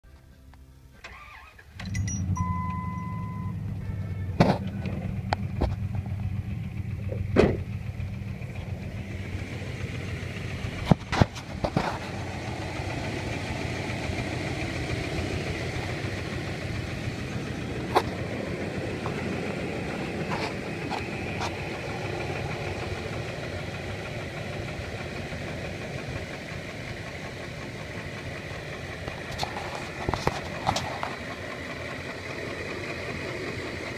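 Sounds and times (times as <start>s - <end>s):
engine starting and idling: 1.0s - 33.9s
engine tapping: 1.0s - 33.9s.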